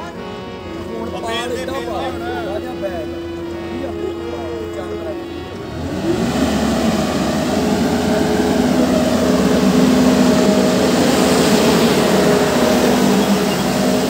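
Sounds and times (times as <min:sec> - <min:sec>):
road roller diesel engine droning: 0:00.0 - 0:14.0.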